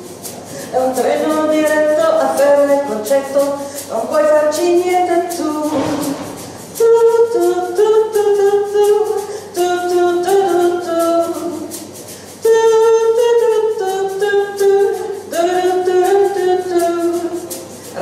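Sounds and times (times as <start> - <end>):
woman singing wordless melody: 0.6 - 18.0.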